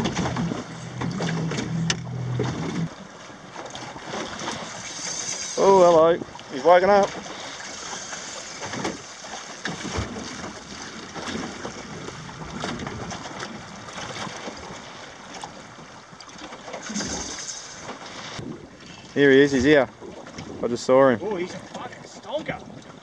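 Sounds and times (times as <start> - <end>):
water noise: 0.0 - 23.0
wind: 0.0 - 23.0.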